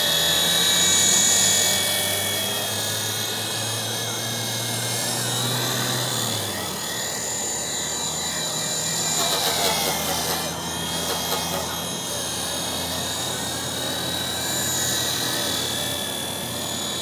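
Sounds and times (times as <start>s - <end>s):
electric motor and gear whine: 0.0s - 17.0s
low rotor hum: 0.0s - 17.0s.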